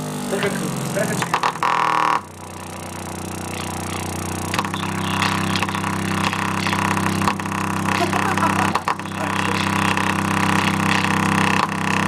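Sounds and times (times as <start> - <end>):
speaker playing low bass tone: 0.3 - 12.0.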